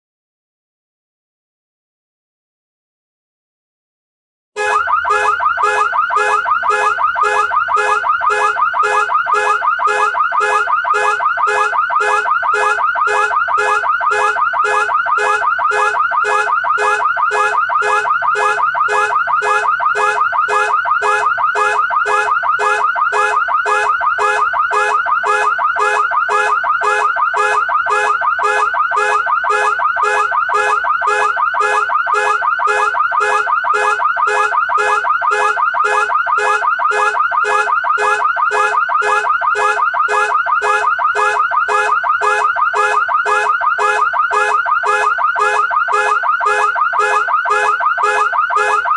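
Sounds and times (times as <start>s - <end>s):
car alarm siren pulsing: 4.6s - 48.9s.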